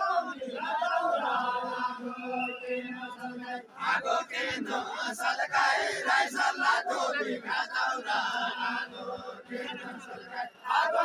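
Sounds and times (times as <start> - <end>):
group of men singing: 0.0 - 11.0.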